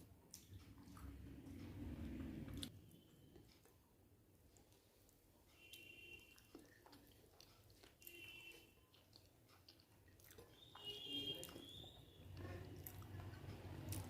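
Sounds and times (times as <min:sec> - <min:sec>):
chewing and lip smacks: 0:00.0 - 0:14.0.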